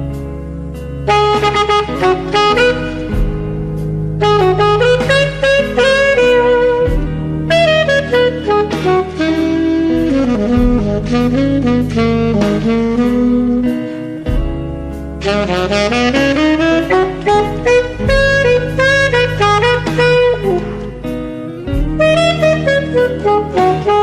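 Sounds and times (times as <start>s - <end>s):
bass accompaniment: 0.0s - 24.0s
saxophone blues solo: 0.0s - 24.0s.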